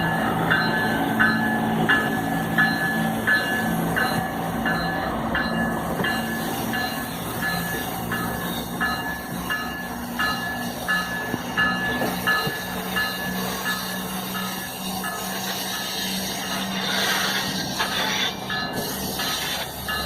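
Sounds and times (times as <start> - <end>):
freight train rumbling: 0.0 - 20.0
train wheels squealing: 0.0 - 20.0.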